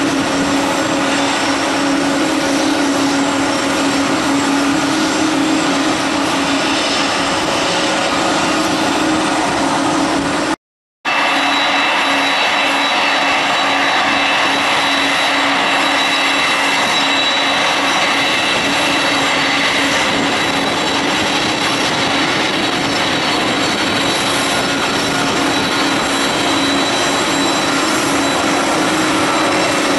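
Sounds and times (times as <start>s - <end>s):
jet engines running: 0.0s - 29.9s.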